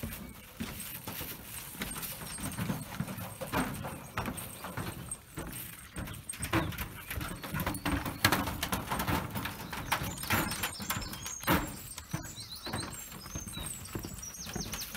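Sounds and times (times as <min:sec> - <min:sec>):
dog paws on wooden boards: 0:00.0 - 0:14.9
footsteps on wooden boardwalk: 0:00.0 - 0:14.9.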